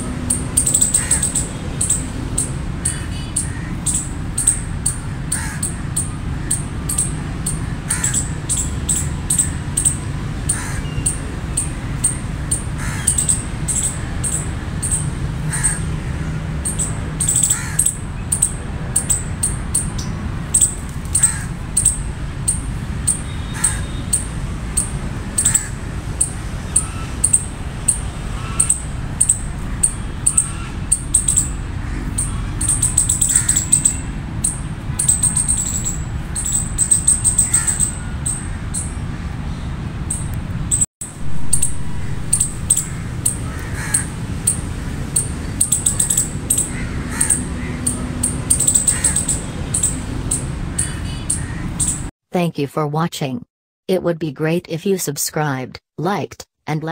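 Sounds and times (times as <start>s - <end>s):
squirrel chirping: 0.0s - 52.1s.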